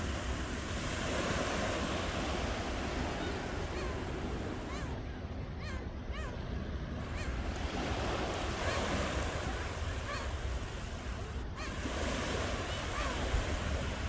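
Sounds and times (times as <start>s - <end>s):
ocean surf washing ashore: 0.0s - 4.8s, 6.7s - 14.0s.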